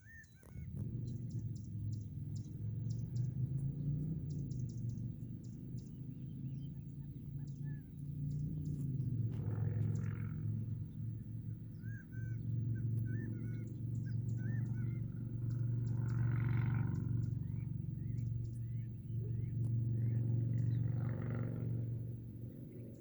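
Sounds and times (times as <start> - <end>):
small birds chirping: 0.0 - 23.0
steady low hum: 0.5 - 23.0.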